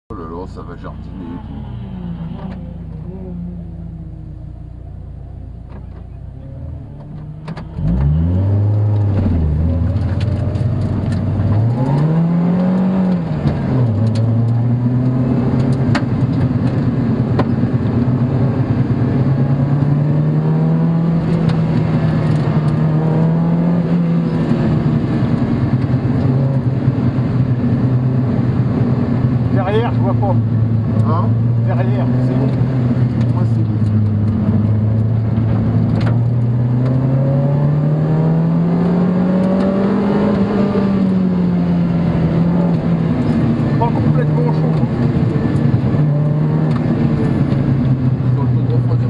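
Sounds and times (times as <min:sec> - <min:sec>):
car engine accelerating: 0:00.1 - 0:49.0.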